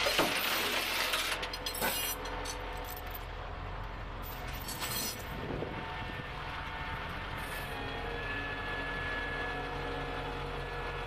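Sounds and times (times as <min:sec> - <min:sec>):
tow truck mechanical hum: 0:00.0 - 0:11.0.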